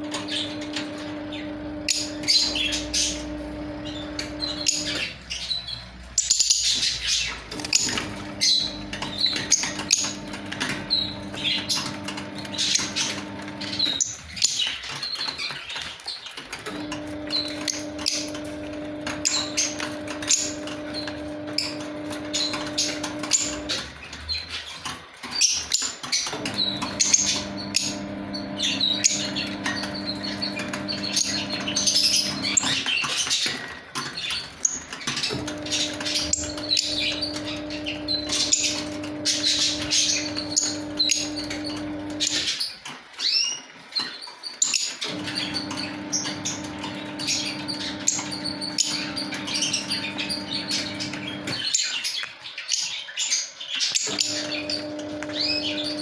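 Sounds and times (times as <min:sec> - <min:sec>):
lovebirds chirping and squeaking: 0:00.0 - 0:56.0.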